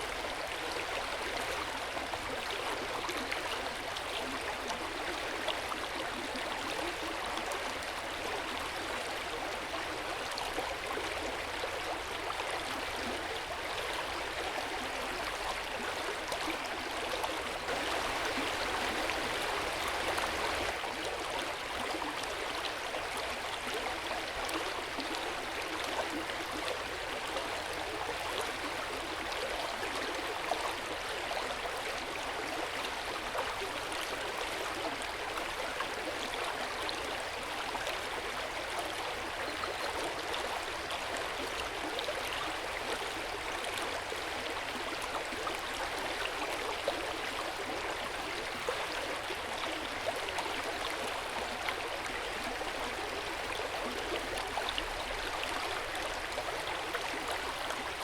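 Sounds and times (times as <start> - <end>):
water flowing gently: 0.0 - 58.0.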